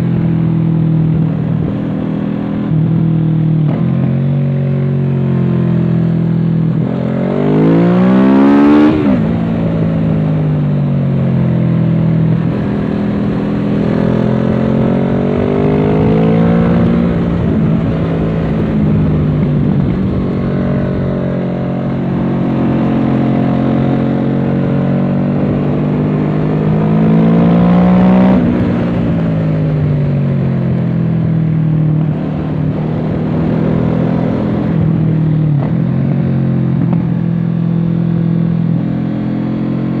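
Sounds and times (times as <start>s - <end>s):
motorcycle engine revving at speed: 0.0s - 40.0s.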